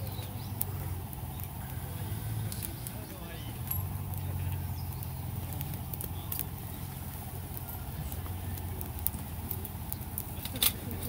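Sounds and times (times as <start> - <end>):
steady low hum: 0.0 - 11.0
wood fire crackling: 0.0 - 11.0.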